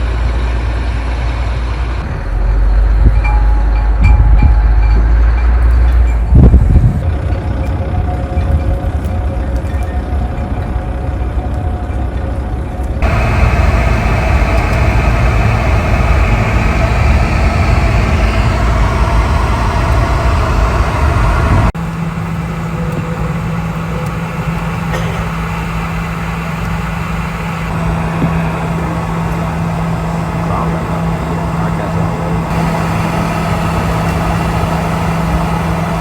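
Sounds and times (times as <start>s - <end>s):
road traffic rumble: 0.0s - 36.0s
steady low hum: 0.0s - 36.0s.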